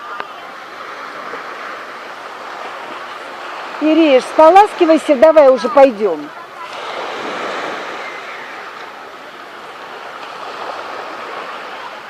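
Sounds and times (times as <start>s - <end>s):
surf washing onto beach: 0.0s - 12.0s.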